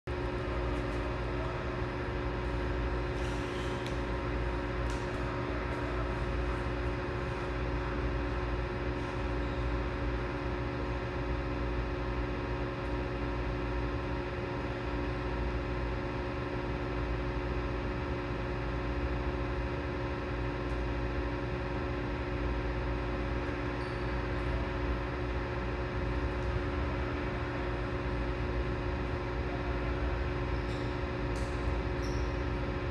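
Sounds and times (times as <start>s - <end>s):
low machine hum: 0.0s - 32.9s.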